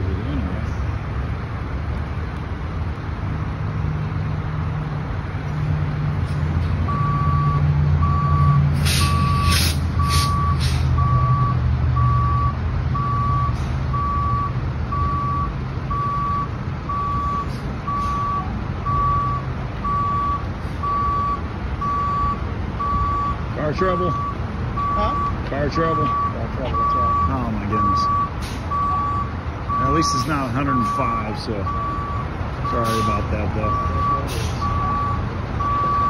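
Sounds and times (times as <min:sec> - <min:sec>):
truck engine rumbling: 0:00.0 - 0:36.0
backup alarm beeping: 0:06.9 - 0:36.0.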